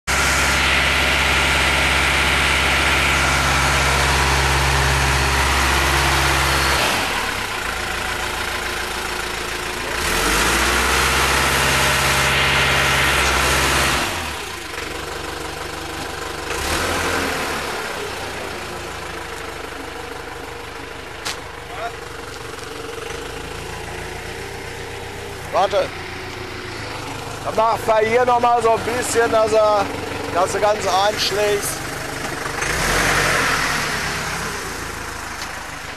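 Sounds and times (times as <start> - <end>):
wheel loader diesel engine running: 0.0 - 35.9.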